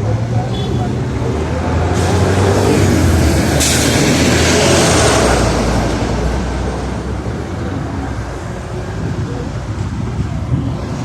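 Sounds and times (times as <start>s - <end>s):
traffic passing: 0.0s - 11.0s.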